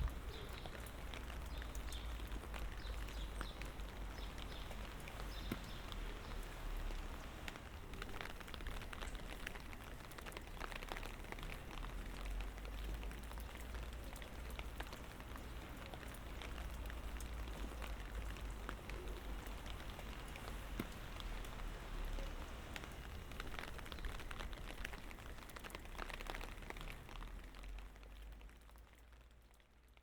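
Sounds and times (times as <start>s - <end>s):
rain hiss: 0.0s - 29.5s
raindrop ticks: 0.0s - 30.0s.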